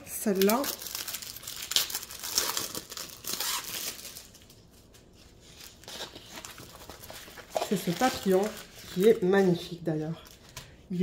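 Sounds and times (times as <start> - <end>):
plastic sleeve crinkling: 0.1 - 10.5.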